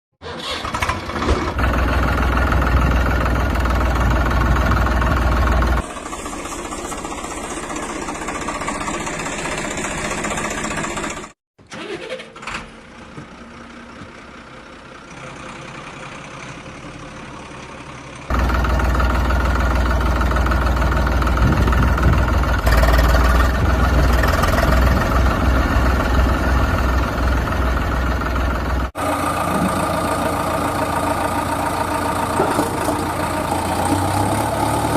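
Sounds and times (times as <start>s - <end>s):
vehicle engine running: 1.5s - 11.4s, 12.8s - 34.9s.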